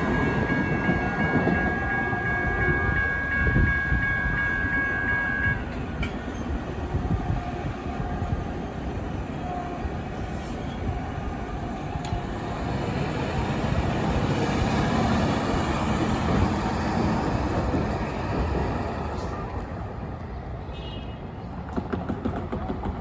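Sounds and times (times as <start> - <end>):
train wheels rumbling on rails: 0.0 - 20.6, 21.2 - 23.0.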